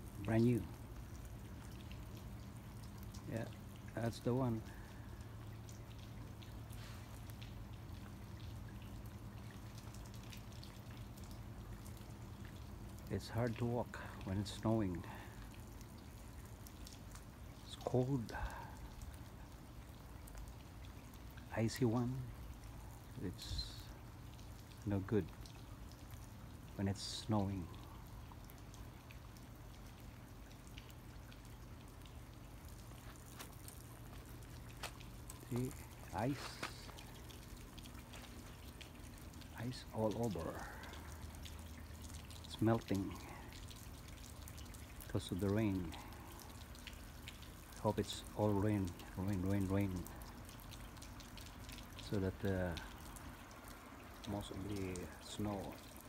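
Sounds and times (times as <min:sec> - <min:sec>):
light rain pattering: 0:00.0 - 0:56.0.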